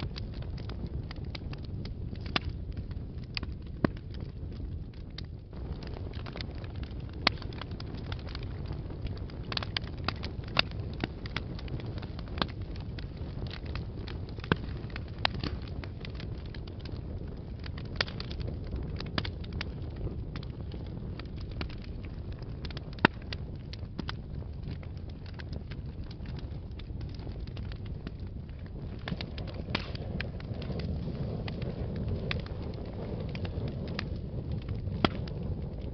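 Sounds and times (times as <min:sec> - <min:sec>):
logs crackling and popping: 0:00.0 - 0:35.9
wood fire burning: 0:00.0 - 0:35.9.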